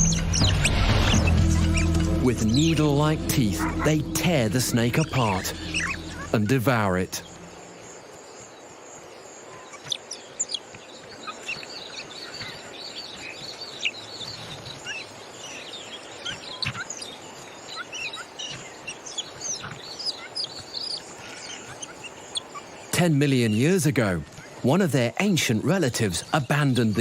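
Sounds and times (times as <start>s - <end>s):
birds chirping: 0.0s - 27.0s
outdoor ambience hiss: 0.0s - 27.0s.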